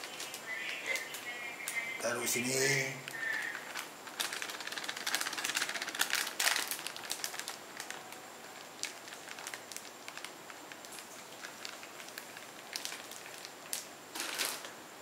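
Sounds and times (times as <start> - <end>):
plastic bag crinkling: 0.0 - 14.8.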